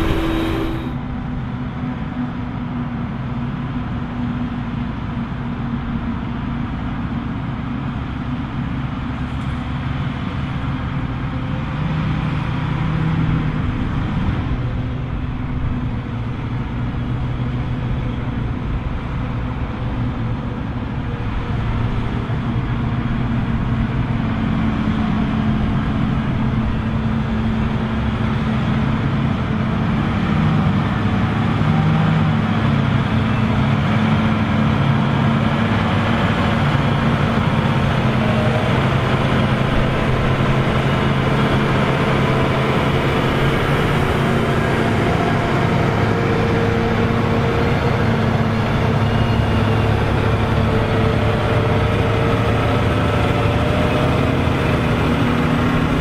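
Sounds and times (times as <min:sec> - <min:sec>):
diesel engines droning under load: 0:00.0 - 0:56.0.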